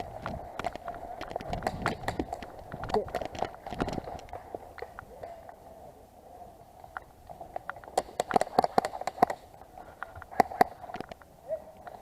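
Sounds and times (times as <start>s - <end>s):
sharp clicks and cracks: 0.0s - 5.6s, 6.9s - 12.0s.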